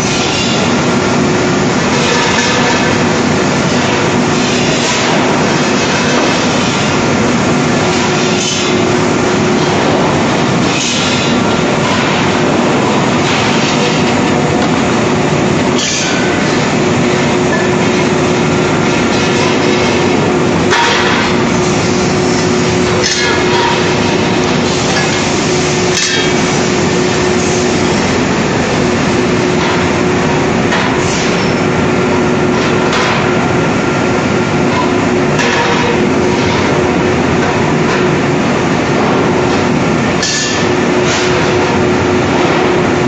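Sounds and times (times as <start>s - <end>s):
shot blasting machine running: 0.0s - 43.0s.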